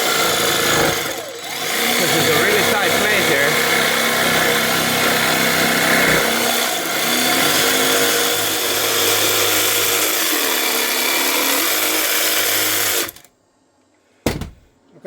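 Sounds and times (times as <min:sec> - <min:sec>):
jigsaw cutting wood: 0:00.0 - 0:13.3.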